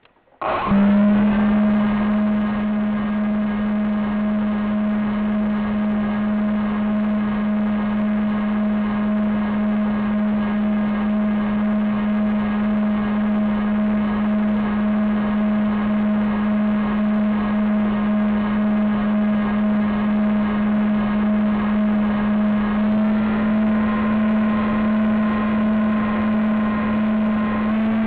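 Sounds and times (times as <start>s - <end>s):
model plane motor and propeller: 0.4s - 28.0s.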